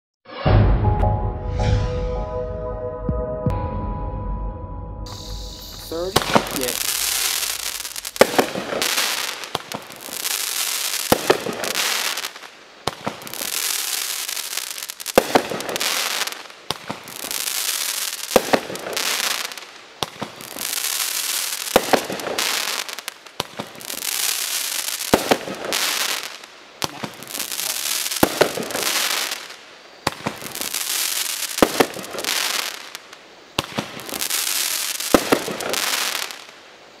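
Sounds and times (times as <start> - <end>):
firework bangs: 5.1 - 36.7
hissing crackle of fireworks: 5.1 - 37.0.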